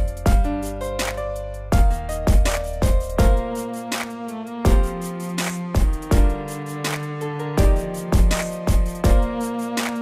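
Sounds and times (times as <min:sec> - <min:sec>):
deep steady beat: 0:00.0 - 0:10.0.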